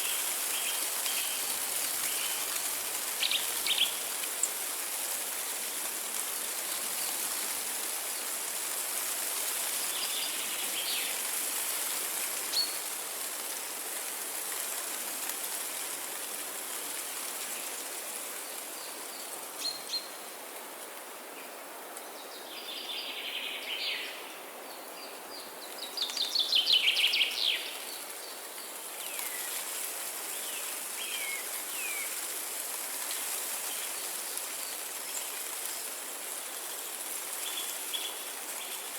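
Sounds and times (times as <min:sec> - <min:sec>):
outdoor hiss: 0:00.0 - 0:38.9.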